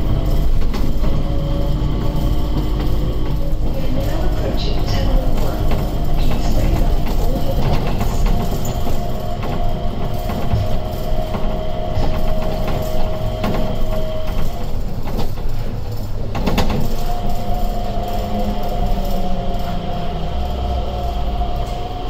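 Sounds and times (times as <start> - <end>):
train motor whine: 0.0 - 22.0
train running noise: 0.0 - 22.0.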